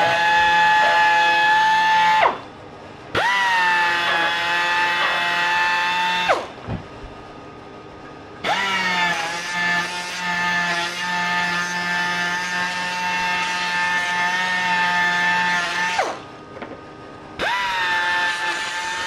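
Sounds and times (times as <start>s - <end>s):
pneumatic polisher whining: 0.0s - 2.4s, 3.1s - 6.6s, 8.4s - 16.3s, 17.4s - 19.0s.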